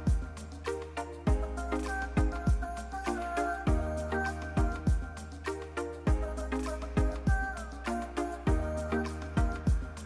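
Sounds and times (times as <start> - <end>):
bass line: 0.0 - 10.0
bright synth melody: 0.0 - 10.0
electronic kick drum beats: 0.0 - 10.0
held synth chords: 0.0 - 10.0.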